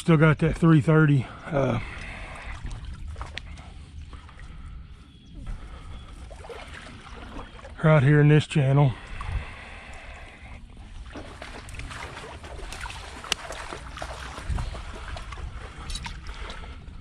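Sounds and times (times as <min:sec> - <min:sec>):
water sloshing and splashing: 0:01.2 - 0:17.0.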